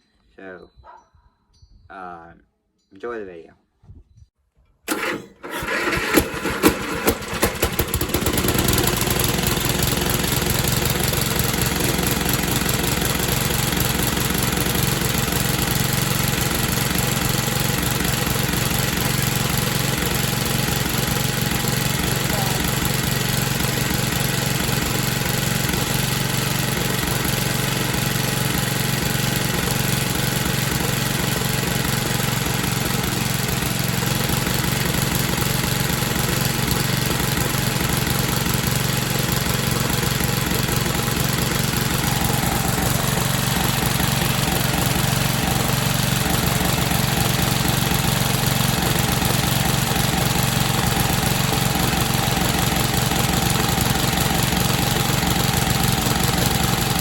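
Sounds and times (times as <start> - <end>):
riding mower engine idling: 4.9 - 57.0.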